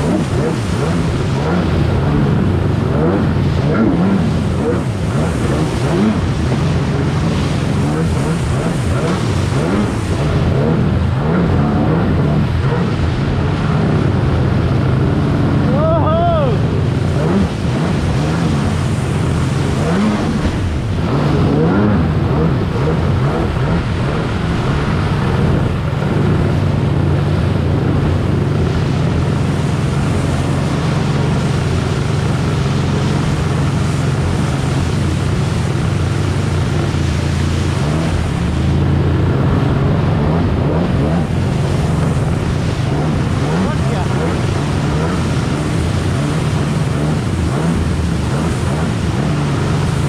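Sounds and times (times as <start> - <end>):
jet ski engine running hard: 0.0 - 50.0
rushing water and spray: 0.0 - 50.0.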